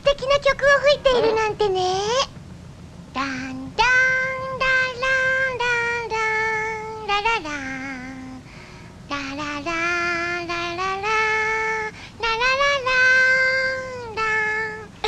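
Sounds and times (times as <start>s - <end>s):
girl singing: 0.0s - 2.3s, 3.2s - 8.5s, 9.1s - 15.0s.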